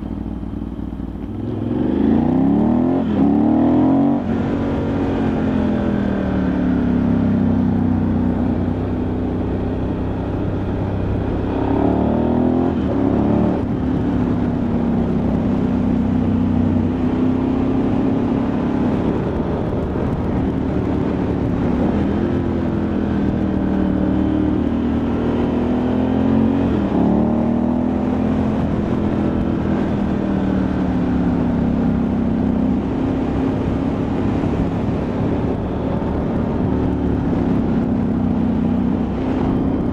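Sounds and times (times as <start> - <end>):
motorcycle engine revving on road: 0.0 - 39.9.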